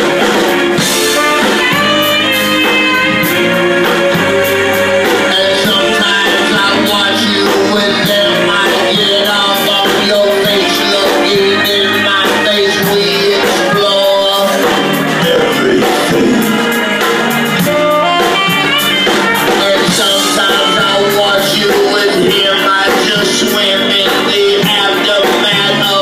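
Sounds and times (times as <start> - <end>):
loud band music: 0.0 - 26.0.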